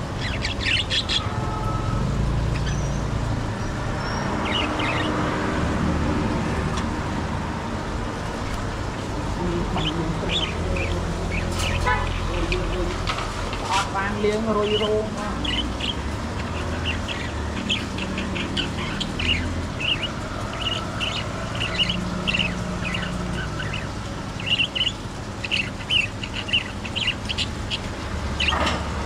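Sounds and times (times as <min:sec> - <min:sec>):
budgerigars chirping: 0:00.0 - 0:06.0, 0:09.2 - 0:29.0.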